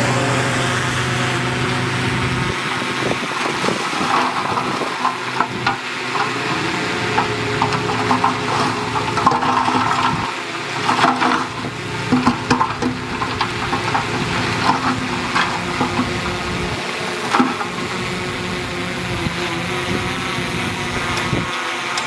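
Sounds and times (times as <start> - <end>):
heavy machine engine humming: 0.0 - 22.0
soil and stones sliding: 0.0 - 22.0.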